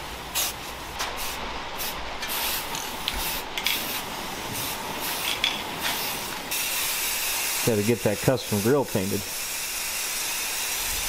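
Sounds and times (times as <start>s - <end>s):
spray paint can hissing: 0.4s - 11.0s.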